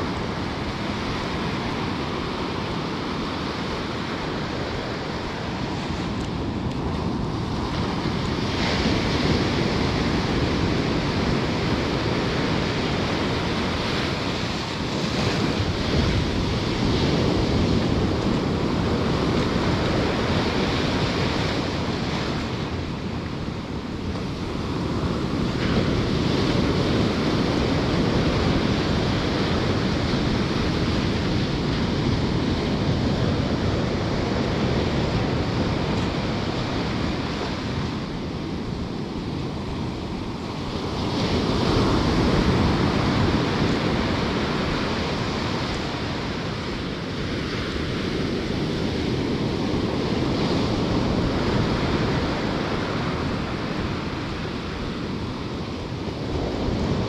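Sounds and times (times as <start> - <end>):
ocean waves breaking: 0.0 - 57.0
wind rumbling on microphone: 0.0 - 57.0.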